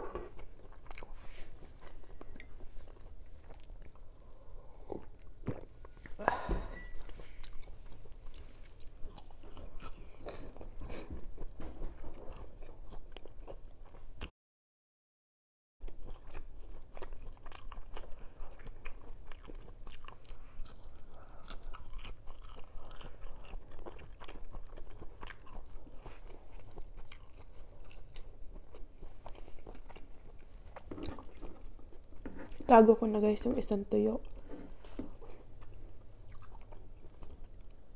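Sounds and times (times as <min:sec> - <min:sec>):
wet chewing with crunchy bites: 0:00.0 - 0:06.2, 0:07.0 - 0:14.3, 0:15.8 - 0:32.7, 0:34.2 - 0:37.9.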